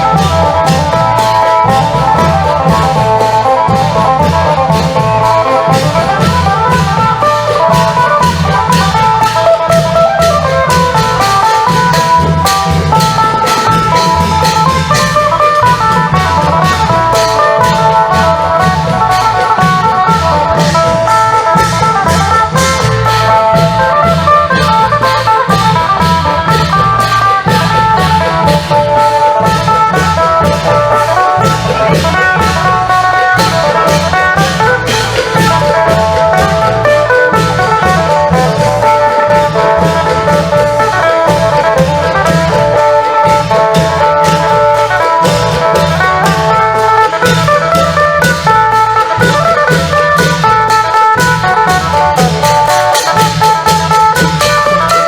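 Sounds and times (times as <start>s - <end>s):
plucked lute melody: 0.0s - 55.0s
steady drum rhythm: 0.0s - 55.0s.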